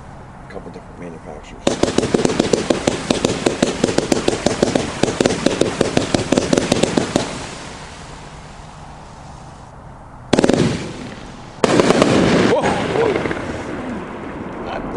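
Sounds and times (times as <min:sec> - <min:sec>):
firework comet shots: 0:01.6 - 0:09.7, 0:10.3 - 0:14.9
firework hiss: 0:01.6 - 0:14.8.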